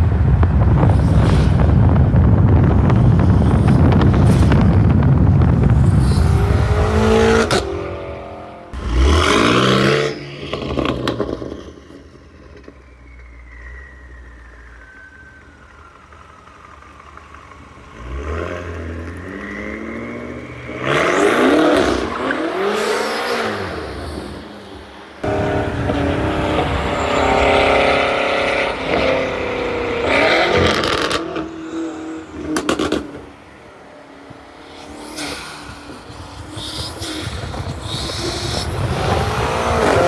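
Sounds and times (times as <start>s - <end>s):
car engine revving: 0.0s - 11.8s, 17.9s - 40.0s.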